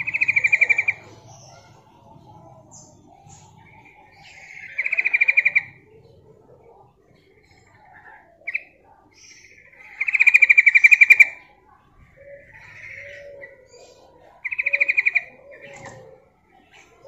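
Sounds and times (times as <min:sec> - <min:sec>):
bird chattering trills: 0:00.0 - 0:17.0
soft bird chatter: 0:00.0 - 0:17.0.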